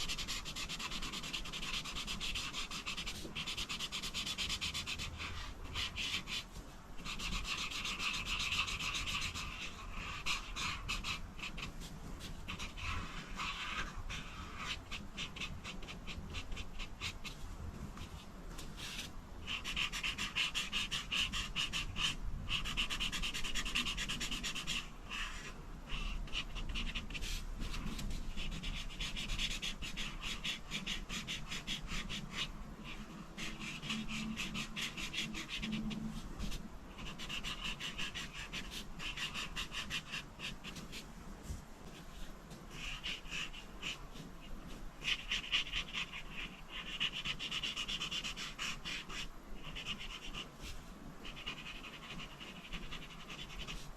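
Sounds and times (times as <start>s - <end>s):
coloring strokes scratching on paper: 0.0s - 53.9s.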